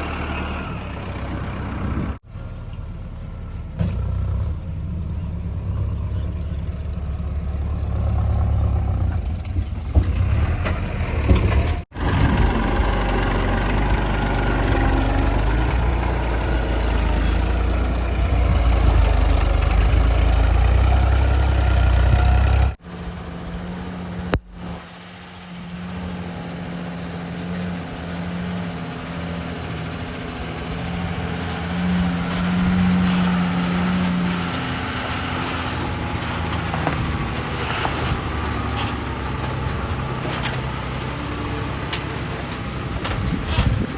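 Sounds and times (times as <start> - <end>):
heavy diesel engines running: 0.0 - 43.9.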